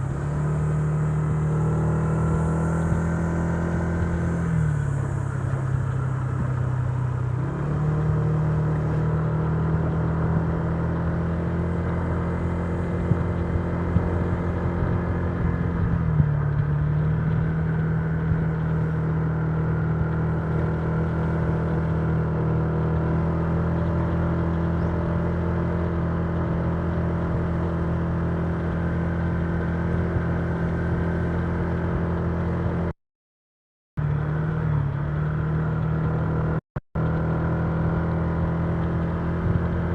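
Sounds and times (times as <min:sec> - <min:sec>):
scooter engine running: 0:00.0 - 0:32.9, 0:34.0 - 0:39.9.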